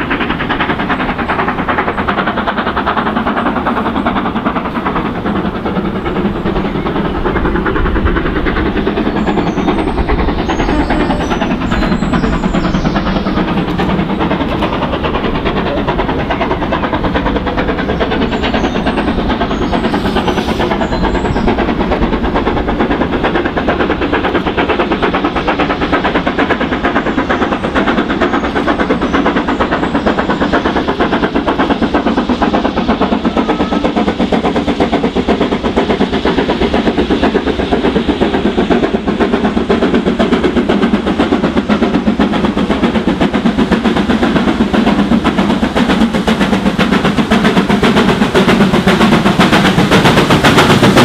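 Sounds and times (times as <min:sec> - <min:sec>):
steam locomotive exhaust chuffs: 0:00.0 - 0:51.0.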